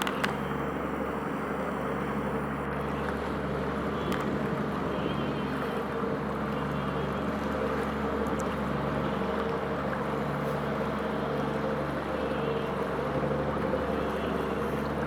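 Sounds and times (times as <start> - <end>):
boat engine humming: 0.0 - 15.0
water noise: 0.0 - 15.0
wind: 0.0 - 15.0.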